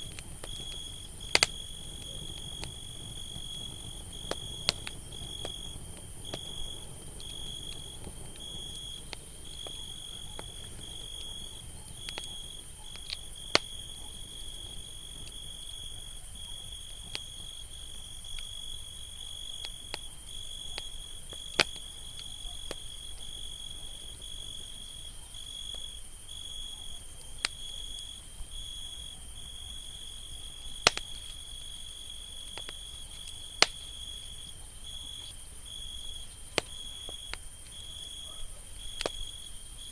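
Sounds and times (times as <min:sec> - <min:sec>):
campfire crackling: 0:00.0 - 0:39.9
crickets trilling: 0:00.0 - 0:39.9.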